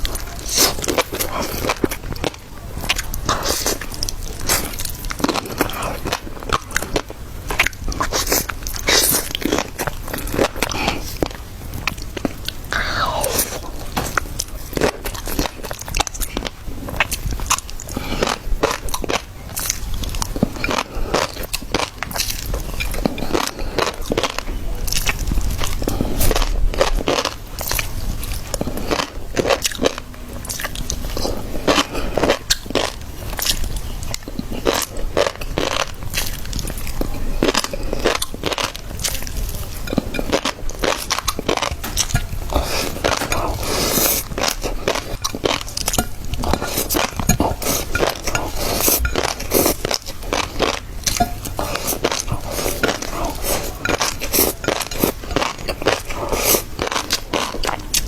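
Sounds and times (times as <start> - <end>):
wet chewing and biting: 0.0 - 58.0.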